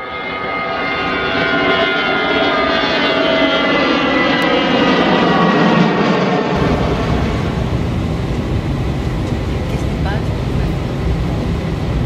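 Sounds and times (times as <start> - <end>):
jet engines heard from cabin: 0.0 - 12.0.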